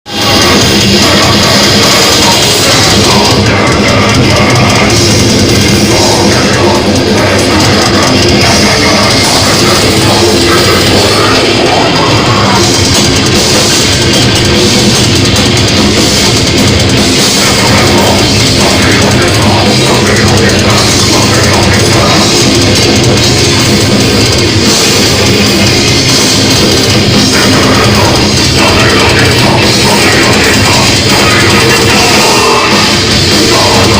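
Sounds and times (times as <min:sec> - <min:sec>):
heavy metal music: 0:00.0 - 0:33.9.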